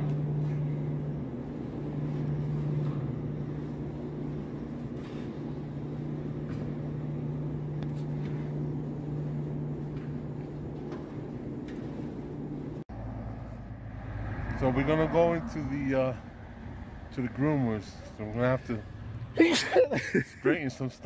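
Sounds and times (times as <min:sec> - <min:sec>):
dryers humming: 0:00.0 - 0:21.0.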